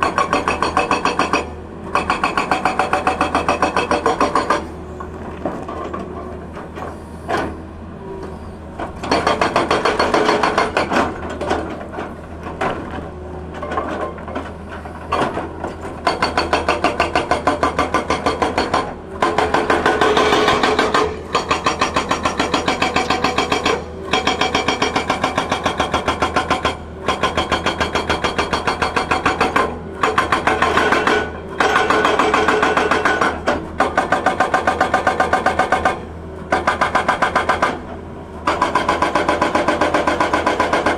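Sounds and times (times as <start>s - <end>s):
hydraulic rock breaker hammering rock: 0.0s - 7.6s, 8.8s - 40.9s
excavator engine running: 0.0s - 40.9s.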